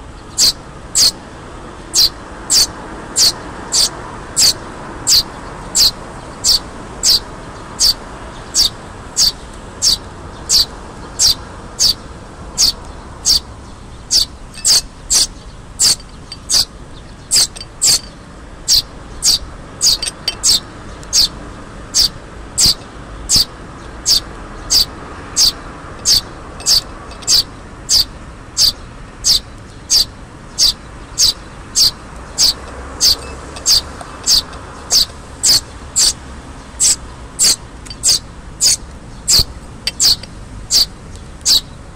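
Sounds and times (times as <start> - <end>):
fledgling sparrow chirping: 0.0 - 1.2, 1.9 - 41.8.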